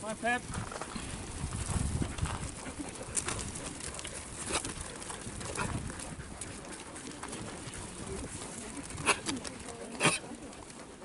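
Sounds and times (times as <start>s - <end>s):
wind rumbling on microphone: 0.0s - 9.8s.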